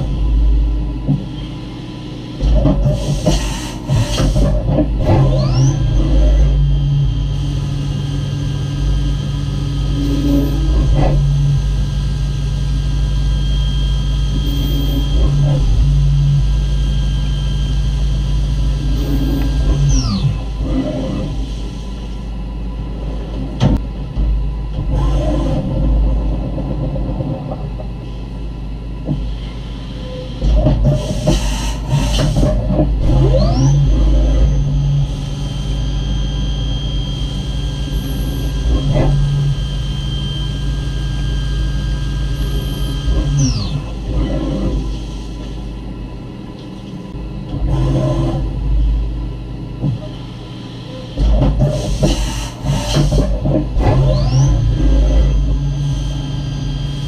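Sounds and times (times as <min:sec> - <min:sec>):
milling spindle whine: 0:00.0 - 0:23.8, 0:29.4 - 0:57.0
low machine hum: 0:00.0 - 0:57.0.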